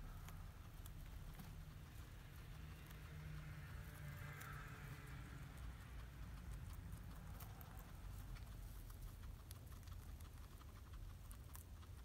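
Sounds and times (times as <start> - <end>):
guinea pig chewing hay: 0.0 - 12.0
low steady rumble: 0.0 - 12.0.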